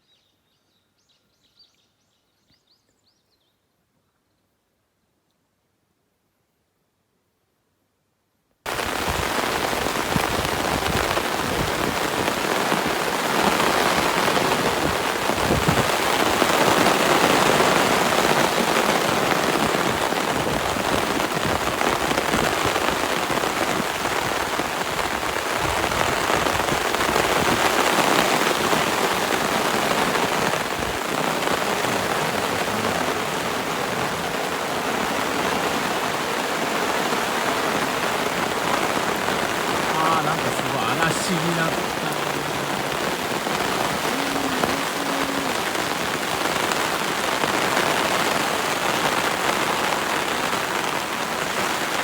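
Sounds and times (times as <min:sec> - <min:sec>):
heavy rain downpour: 0:08.7 - 0:52.0.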